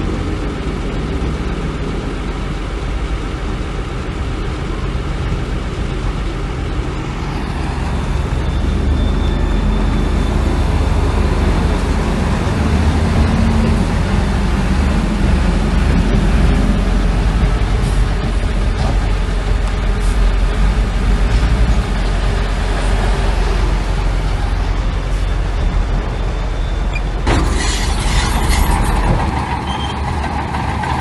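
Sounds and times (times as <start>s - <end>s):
heavy diesel engine rumbling: 0.0s - 31.0s.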